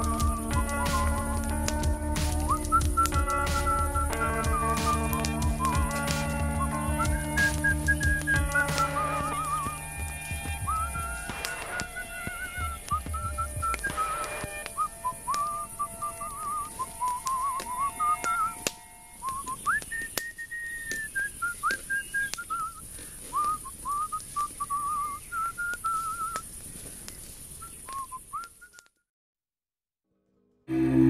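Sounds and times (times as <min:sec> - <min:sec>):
person whistling a tune: 0:00.0 - 0:01.4, 0:02.3 - 0:26.4, 0:27.6 - 0:29.0
campfire crackling: 0:00.0 - 0:28.9.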